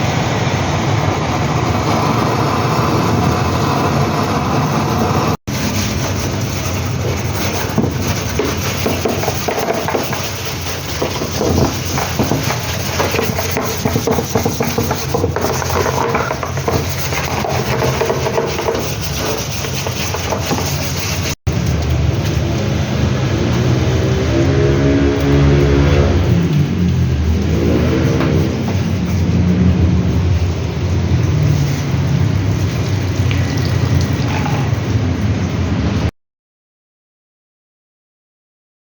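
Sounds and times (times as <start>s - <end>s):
washing machine churning: 0.0s - 36.1s.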